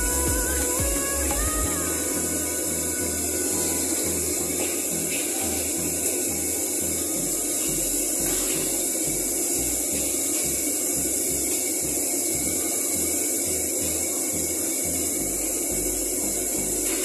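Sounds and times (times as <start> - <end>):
gas burners hissing: 0.0 - 17.0
low pulsing throb: 0.0 - 17.0.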